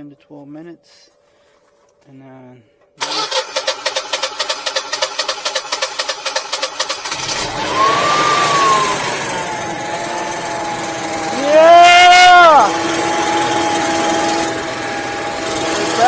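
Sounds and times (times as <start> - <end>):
generator engine running: 3.0 - 16.0
starter cranking engine: 3.0 - 16.0.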